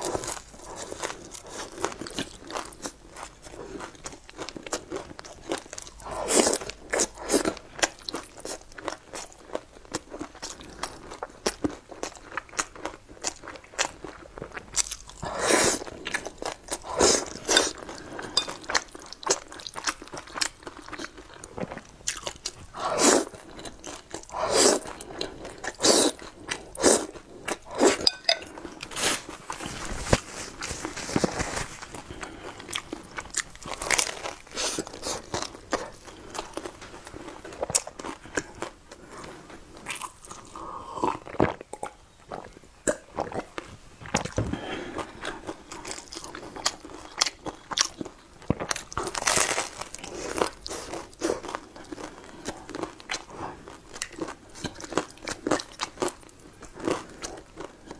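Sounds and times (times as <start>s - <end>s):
chewing: 0.0s - 29.8s, 30.6s - 57.9s.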